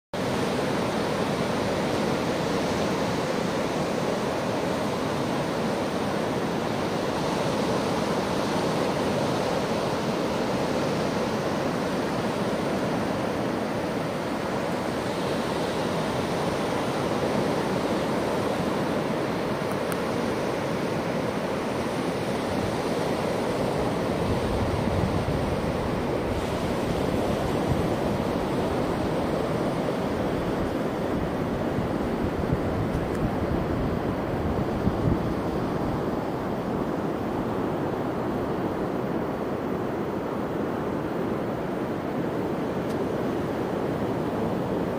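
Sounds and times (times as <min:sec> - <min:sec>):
ocean surf breaking: 0:00.2 - 0:44.9
wind rumbling on microphone: 0:00.2 - 0:44.9.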